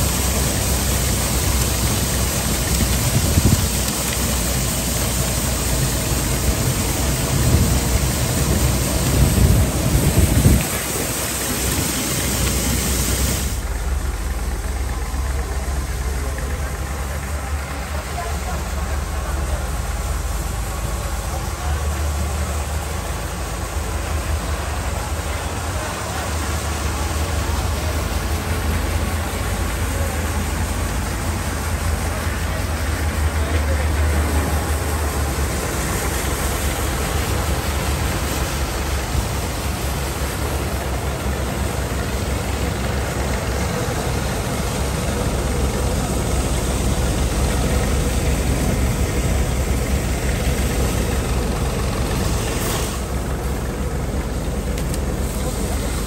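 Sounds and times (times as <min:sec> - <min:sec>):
thresher mechanical noise: 0:00.0 - 0:56.0
tractor engine droning: 0:00.0 - 0:56.0.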